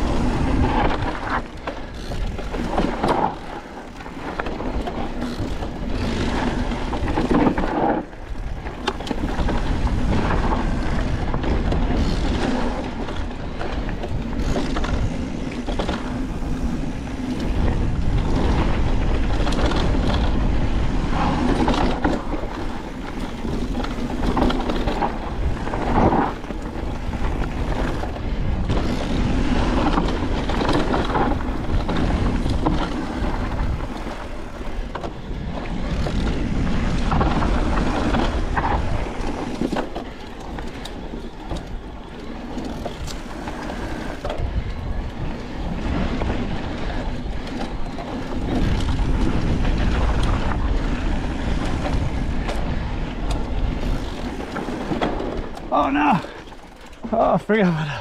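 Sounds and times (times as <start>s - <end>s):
bike clattering over bumps: 0.0s - 57.2s
tyres rumbling on dirt and rock: 0.0s - 58.0s.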